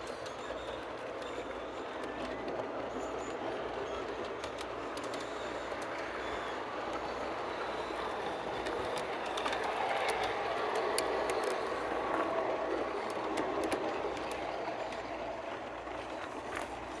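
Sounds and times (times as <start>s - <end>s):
model train rolling on track: 0.0s - 17.0s
sharp clicks of train on track: 0.0s - 17.0s.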